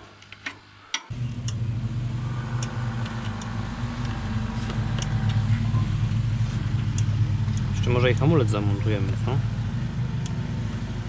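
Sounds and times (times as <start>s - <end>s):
engine running steadily: 1.1s - 11.0s.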